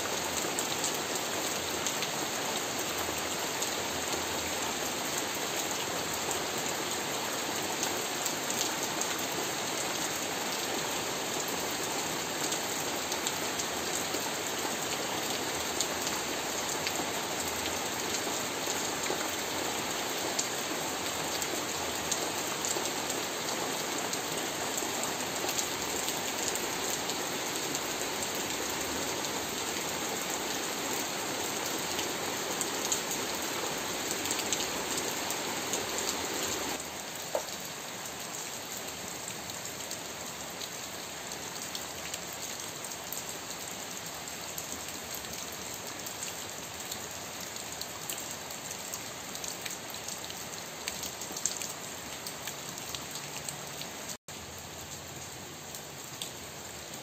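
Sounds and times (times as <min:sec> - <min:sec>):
heavy rain on leaves: 0:00.0 - 0:57.0
rain pattering on water: 0:00.0 - 0:57.0.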